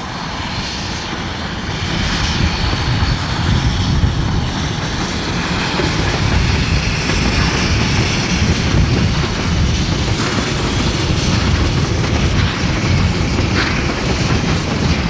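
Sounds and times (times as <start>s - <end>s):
steam locomotive rumbling: 0.0s - 15.0s.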